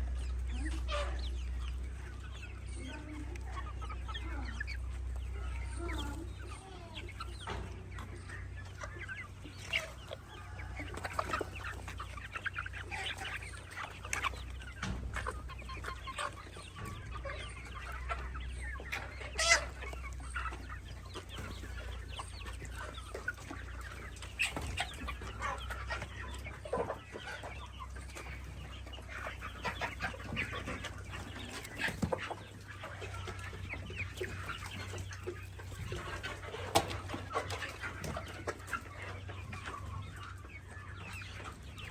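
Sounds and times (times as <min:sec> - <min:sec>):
baby chicks peeping: 0:00.0 - 0:41.9.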